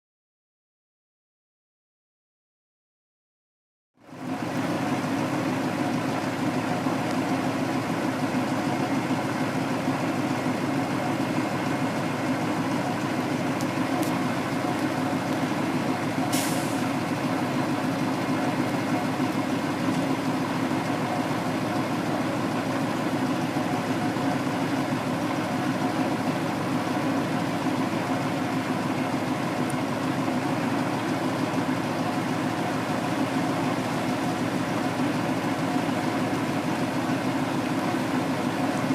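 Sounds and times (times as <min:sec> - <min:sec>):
truck engine idling: 0:04.0 - 0:38.9.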